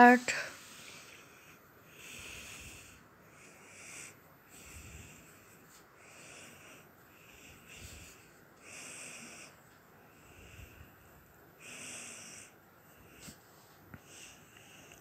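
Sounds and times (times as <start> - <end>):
soft breathing: 0.0 - 15.0.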